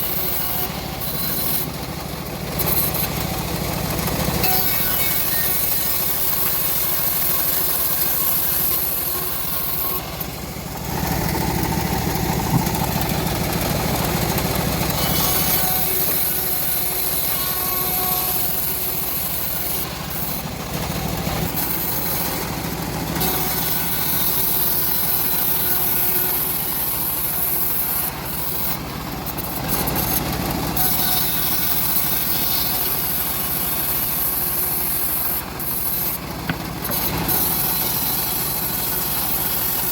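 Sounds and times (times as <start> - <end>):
engine running steadily: 0.0 - 39.9
saw blade rasping through wood: 0.0 - 39.9.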